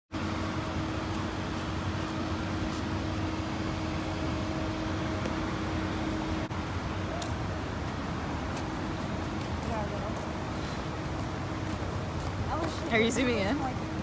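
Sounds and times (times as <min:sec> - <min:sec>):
mechanical hum: 0:00.1 - 0:14.0.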